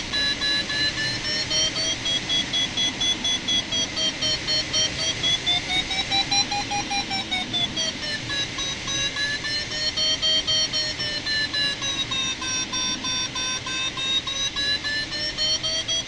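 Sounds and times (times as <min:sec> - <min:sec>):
variometer beeping: 0:00.0 - 0:16.0.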